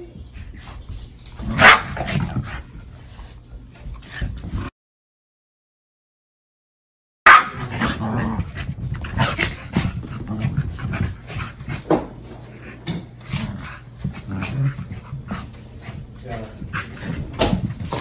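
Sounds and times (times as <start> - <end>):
dogs growling and panting: 0.0 - 4.7, 7.6 - 18.0.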